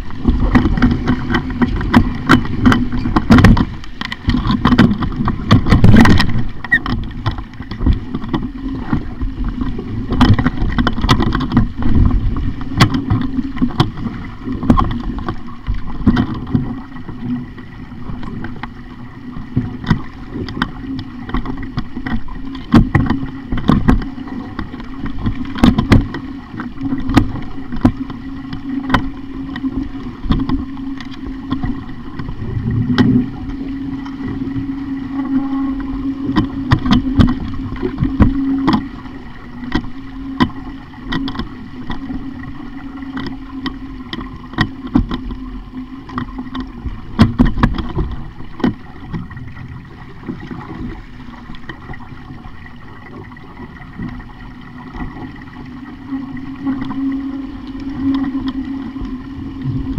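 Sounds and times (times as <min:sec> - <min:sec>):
steady low hum: 0:00.0 - 0:59.9
water washing against hull: 0:00.0 - 0:59.9.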